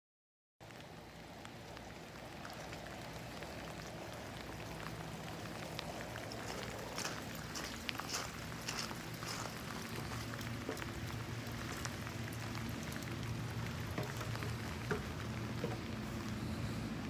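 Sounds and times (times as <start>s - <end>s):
drips ticking: 0.6s - 17.0s
light rain patter: 0.6s - 17.0s
low steady hum: 0.6s - 17.0s.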